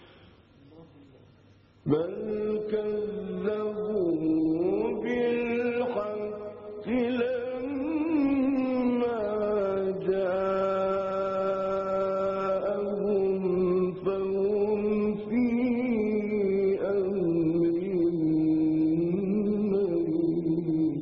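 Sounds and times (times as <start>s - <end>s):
man reciting melodically: 1.8s - 21.0s.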